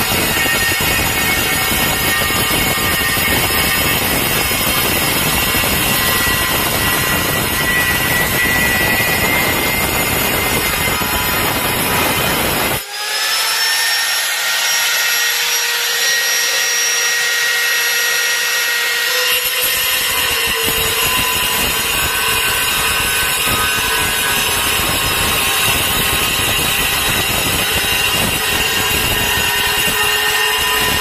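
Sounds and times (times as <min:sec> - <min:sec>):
angle grinder cutting tile: 0:00.0 - 0:31.0.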